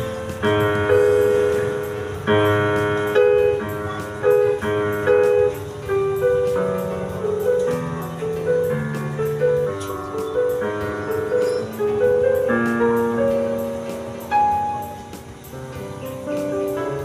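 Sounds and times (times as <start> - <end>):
keyboard chords ringing: 0.0 - 17.0.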